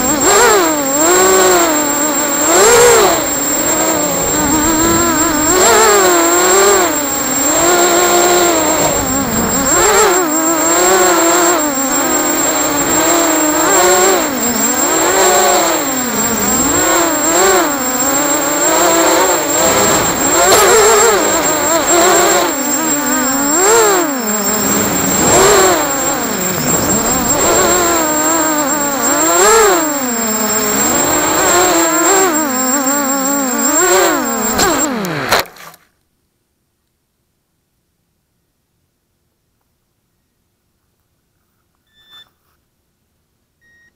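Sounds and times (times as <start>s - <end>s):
quadcopter motors whining: 0.0s - 35.8s.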